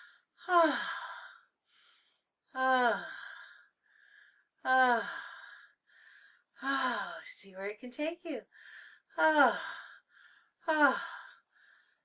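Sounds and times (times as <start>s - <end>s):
woman breathing in: 0.0s - 2.3s, 3.0s - 7.1s, 8.5s - 12.0s.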